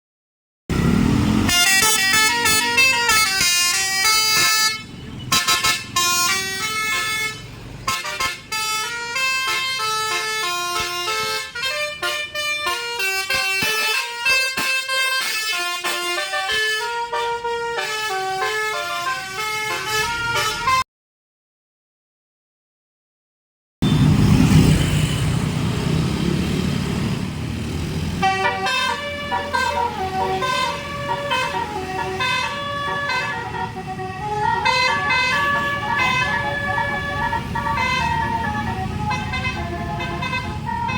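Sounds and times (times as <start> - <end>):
bus air horns playing melody: 0.7 - 20.8, 28.1 - 40.9.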